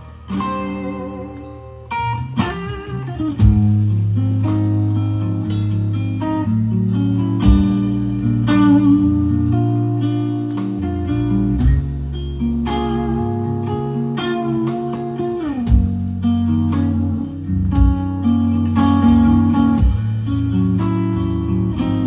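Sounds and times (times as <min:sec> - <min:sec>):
lead guitar notes: 0:00.0 - 0:22.0
live blues band playing: 0:00.0 - 0:22.0.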